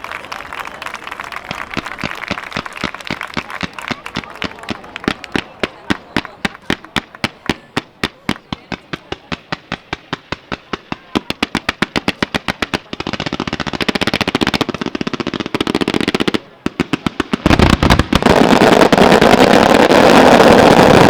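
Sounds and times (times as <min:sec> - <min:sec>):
firework bangs: 0:01.5 - 0:21.0.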